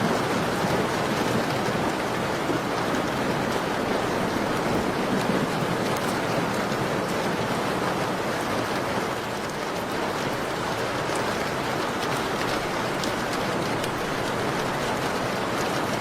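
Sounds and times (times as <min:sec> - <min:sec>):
rain hissing: 0:00.0 - 0:15.3.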